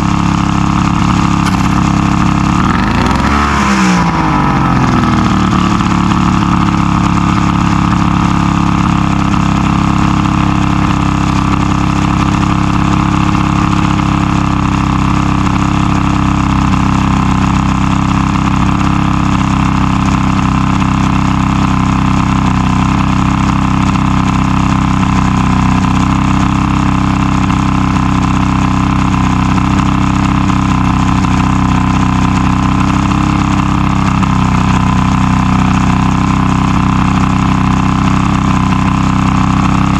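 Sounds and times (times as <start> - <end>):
outboard motor idling: 0.0 - 39.9.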